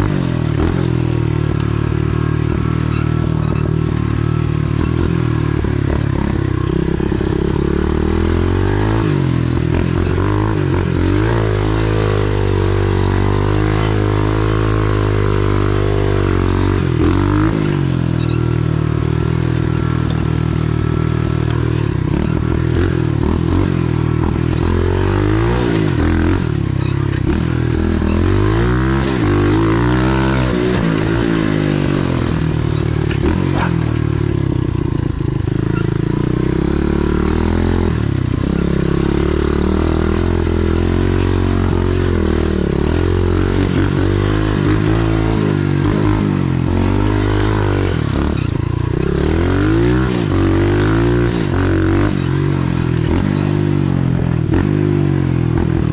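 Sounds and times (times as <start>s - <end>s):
motorbike engine revving: 0.0s - 55.9s.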